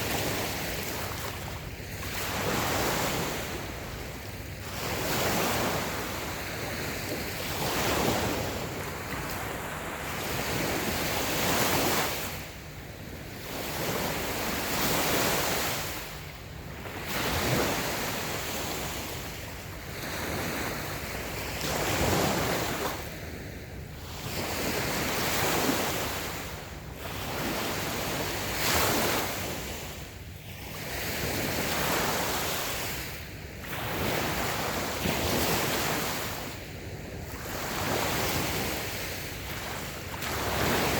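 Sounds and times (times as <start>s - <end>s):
small waves breaking on sand: 0.0s - 40.9s
wind noise on microphone: 0.0s - 40.9s.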